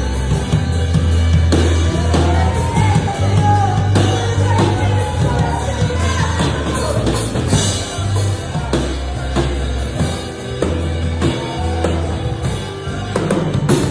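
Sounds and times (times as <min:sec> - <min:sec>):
drum kit playing steady beat: 0:00.0 - 0:13.9
sustained bass notes: 0:00.0 - 0:13.9.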